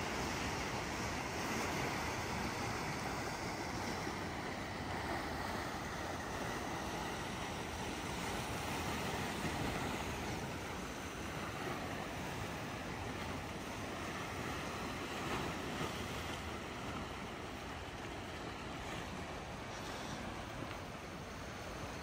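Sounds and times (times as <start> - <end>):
sea waves washing: 0.0 - 22.0
wind: 0.0 - 22.0.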